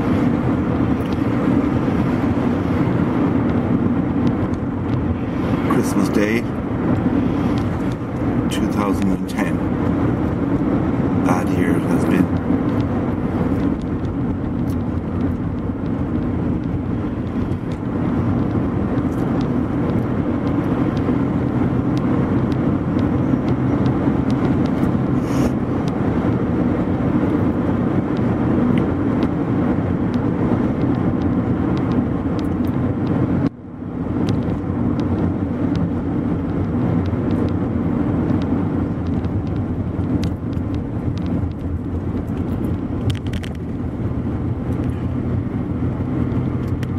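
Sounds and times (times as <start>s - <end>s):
car engine and tyre noise: 0.0s - 46.9s.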